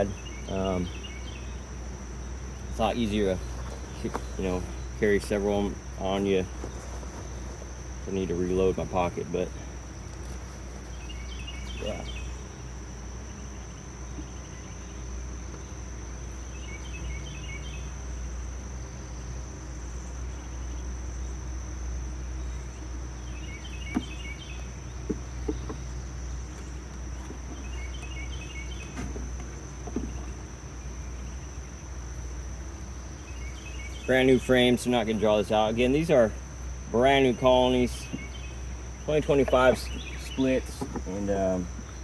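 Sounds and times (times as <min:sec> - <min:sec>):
high-pitched insect trill: 0:00.0 - 0:42.0
low steady hum: 0:00.0 - 0:42.0.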